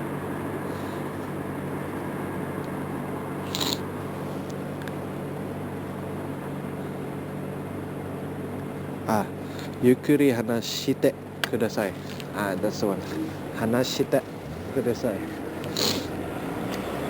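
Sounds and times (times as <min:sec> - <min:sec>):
city street riding noise: 0:00.0 - 0:17.0.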